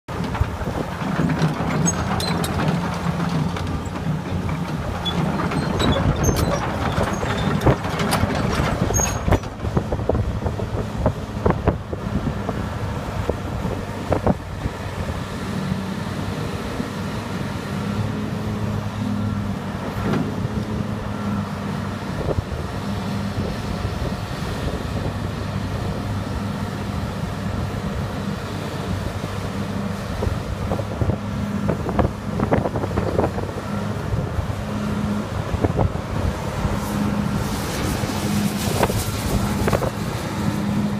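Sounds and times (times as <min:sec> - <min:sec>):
excavator diesel engine running: 0:00.1 - 0:40.9.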